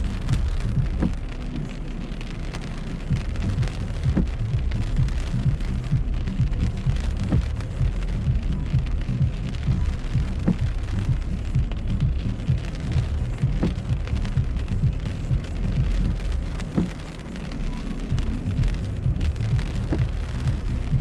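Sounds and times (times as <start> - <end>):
rain on car roof: 0.0 - 21.0
steady low rumble: 0.0 - 21.0
windshield wiper swish: 0.0 - 21.0.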